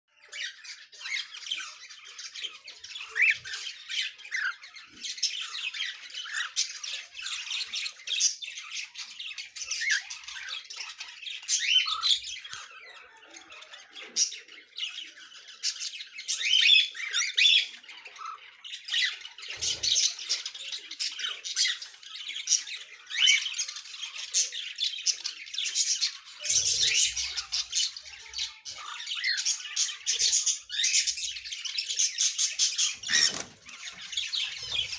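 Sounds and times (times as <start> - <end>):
cockatiels squawking and chirping: 0.1 - 34.9.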